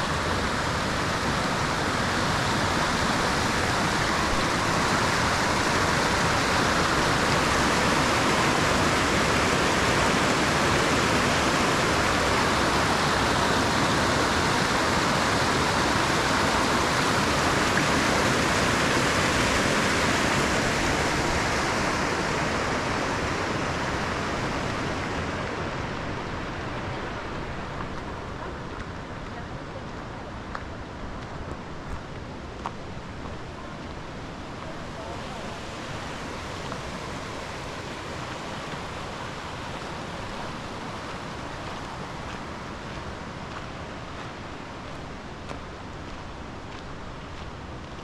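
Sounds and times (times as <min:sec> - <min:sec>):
rushing stream water: 0:00.0 - 0:48.0.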